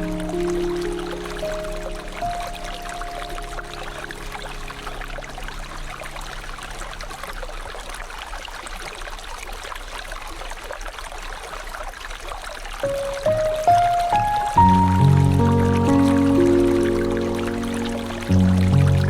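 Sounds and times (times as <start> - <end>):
shallow river flowing over stones: 0.0 - 19.0.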